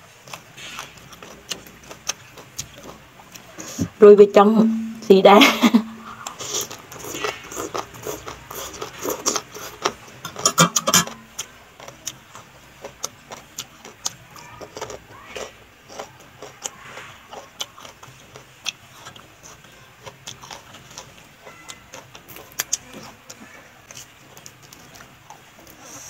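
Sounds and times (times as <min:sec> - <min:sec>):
person chewing with wet smacks: 0:00.1 - 0:04.0, 0:06.0 - 0:26.0.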